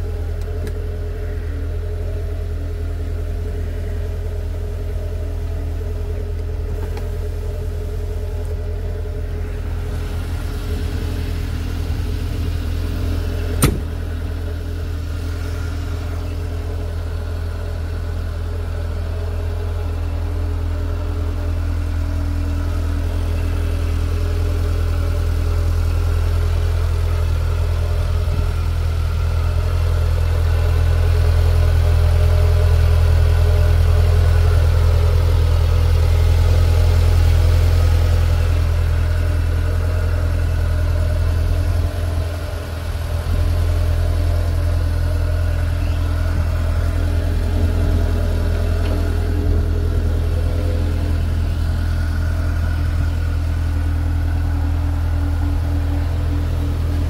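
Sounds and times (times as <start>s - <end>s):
engine idling with deep hum: 0.0s - 57.0s.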